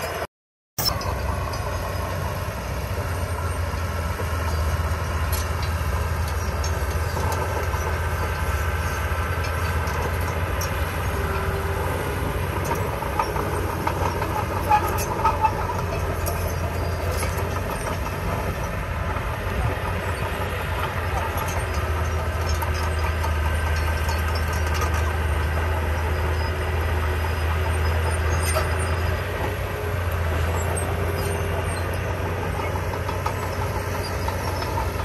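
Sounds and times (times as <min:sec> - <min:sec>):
heavy diesel machinery running: 0:00.0 - 0:35.0
metallic clanking and squealing: 0:00.0 - 0:35.0.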